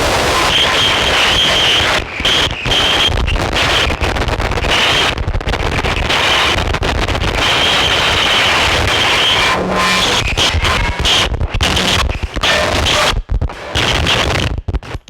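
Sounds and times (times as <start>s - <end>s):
distorted guitar pedal noise: 0.0s - 15.0s.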